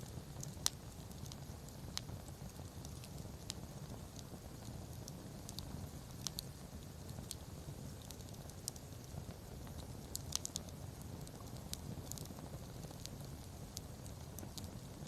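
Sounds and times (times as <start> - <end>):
campfire crackling: 0.0 - 15.0
low fire rumble: 0.0 - 15.0.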